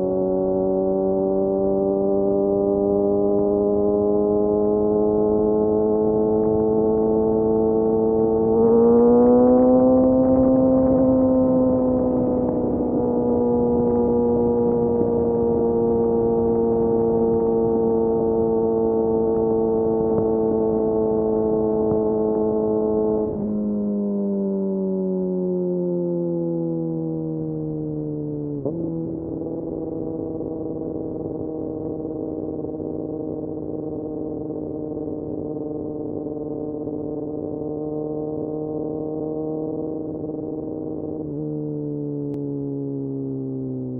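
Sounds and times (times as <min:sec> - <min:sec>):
motorcycle engine at high revs: 0:00.0 - 0:43.9.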